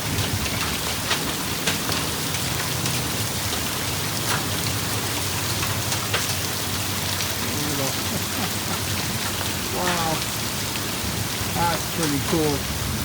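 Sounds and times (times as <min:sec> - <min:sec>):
hailstones knocking: 0:00.0 - 0:13.0
heavy rain pouring: 0:00.0 - 0:13.0.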